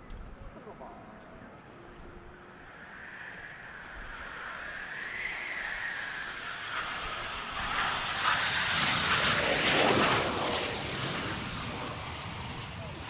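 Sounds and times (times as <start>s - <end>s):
aircraft engines: 0.0s - 13.0s.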